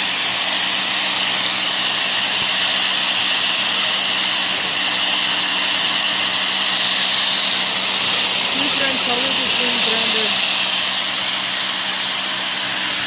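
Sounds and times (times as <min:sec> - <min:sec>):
grinder motor hum: 0:00.0 - 0:13.0
grinder wheel hissing: 0:00.0 - 0:13.0.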